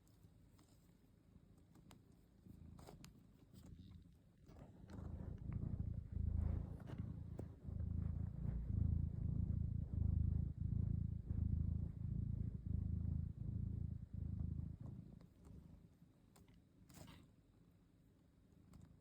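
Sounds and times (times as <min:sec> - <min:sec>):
cat purring: 0:00.6 - 0:17.3.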